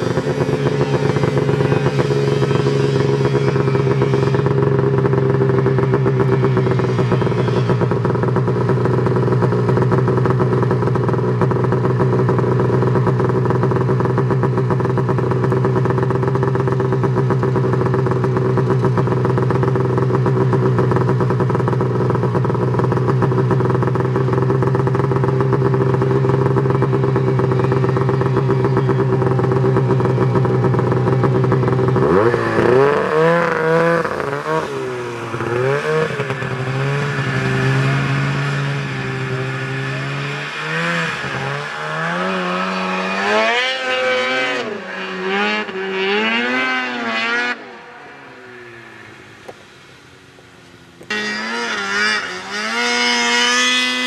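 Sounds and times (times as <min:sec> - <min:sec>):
snowmobile engine revving: 0:00.0 - 0:49.2, 0:51.0 - 0:54.0.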